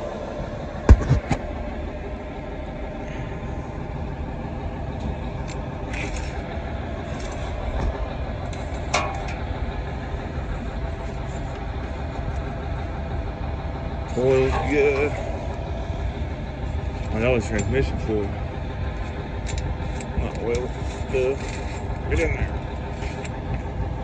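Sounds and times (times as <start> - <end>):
engine idling rumble: 0.0 - 24.0.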